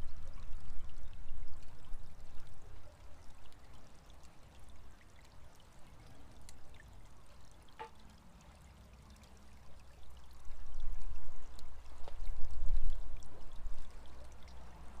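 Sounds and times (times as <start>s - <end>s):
water pouring and trickling: 0.0s - 15.0s.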